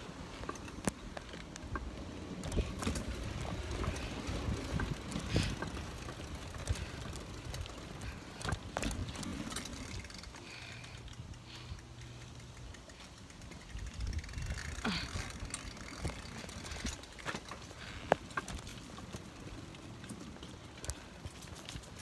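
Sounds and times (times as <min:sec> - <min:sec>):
bicycle tyre rumble on concrete: 0:00.0 - 0:22.0.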